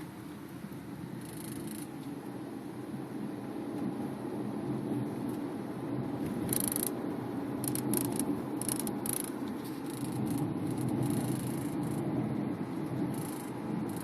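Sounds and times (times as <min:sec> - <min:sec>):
road rumble inside car: 0:00.0 - 0:14.0.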